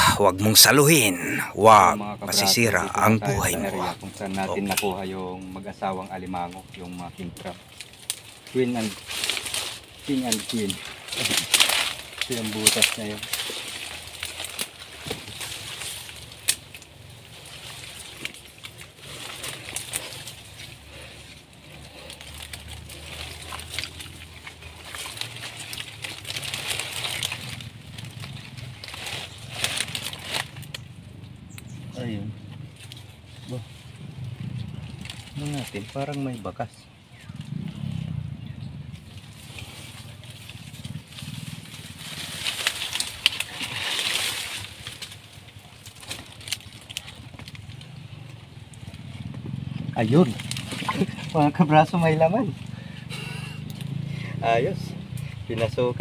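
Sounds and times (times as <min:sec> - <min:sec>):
dry palm fronds rustling: 0:00.0 - 0:56.0
stiff stems snapping: 0:06.3 - 0:36.5, 0:38.9 - 0:54.1.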